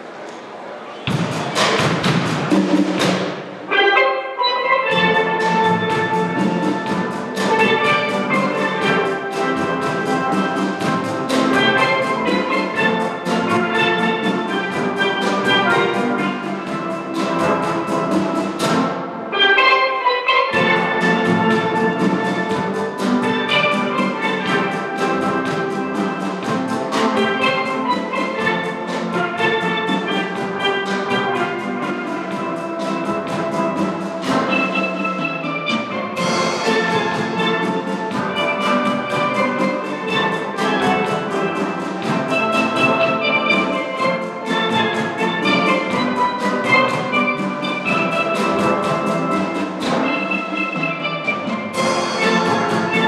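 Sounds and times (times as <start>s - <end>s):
steel drum band playing: 0.0s - 53.0s.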